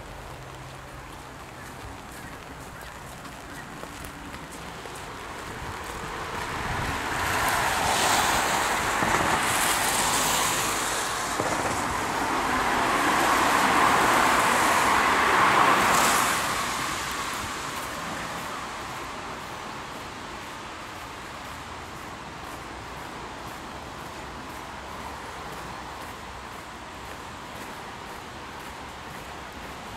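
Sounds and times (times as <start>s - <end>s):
cars passing on wet road: 0.0s - 29.9s.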